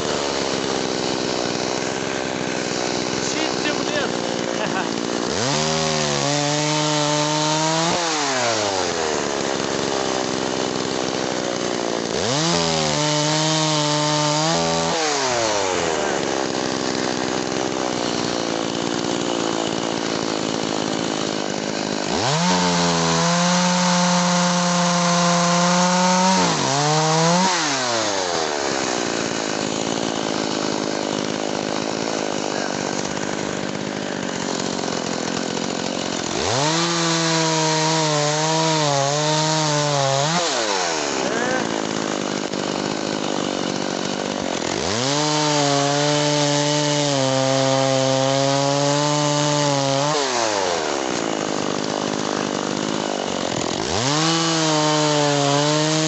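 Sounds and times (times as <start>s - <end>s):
chainsaw revving and idling: 0.0s - 56.0s.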